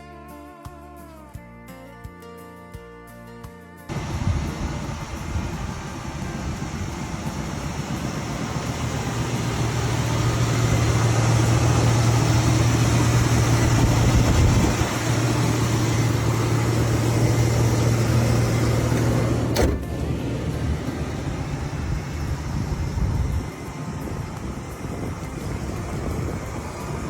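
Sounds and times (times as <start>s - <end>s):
car engine humming: 3.9s - 27.0s.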